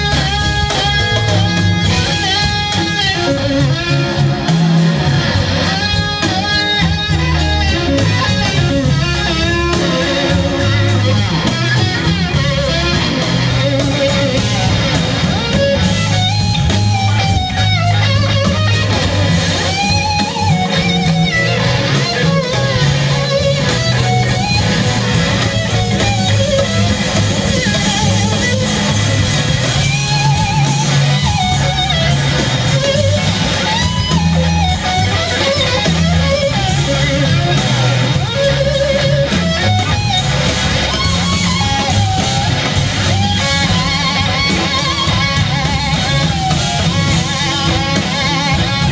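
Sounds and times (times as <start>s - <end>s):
lead electric guitar melody: 0.0s - 48.9s
live rock band playing: 0.0s - 48.9s.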